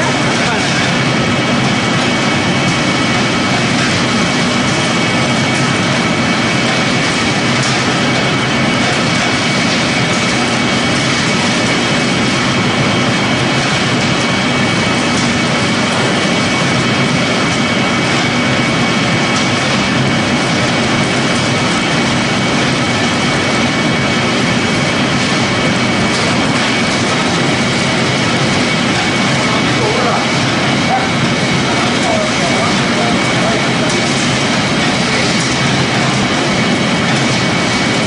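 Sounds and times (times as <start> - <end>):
pellet machinery running: 0.0 - 38.0.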